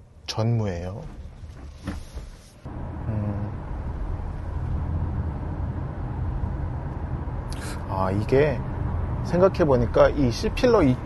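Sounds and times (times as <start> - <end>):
road and tyre noise in car: 0.0 - 11.0.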